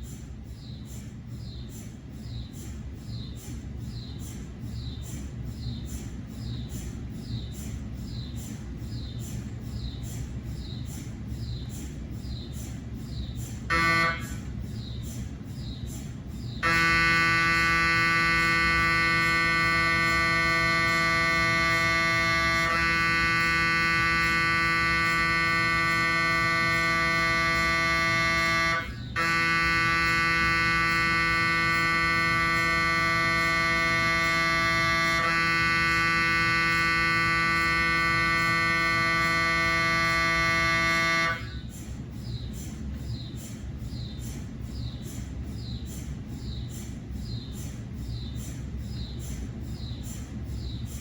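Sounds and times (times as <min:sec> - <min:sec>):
mri scanner loud steady tone: 0:00.0 - 0:51.0.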